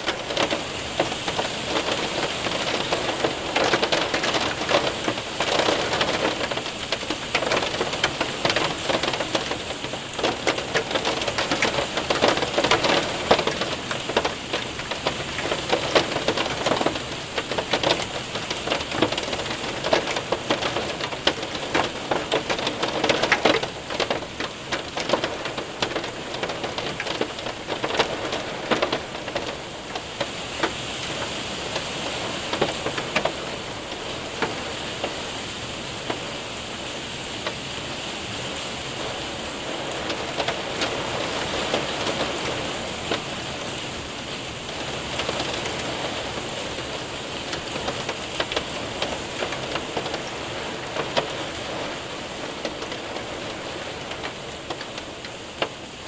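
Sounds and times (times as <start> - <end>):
hailstones ticking: 0.0 - 56.0
rain on window and roof: 0.0 - 56.0.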